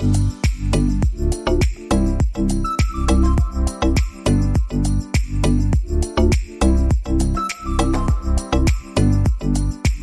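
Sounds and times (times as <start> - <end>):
background music with jingly top: 0.0 - 10.0.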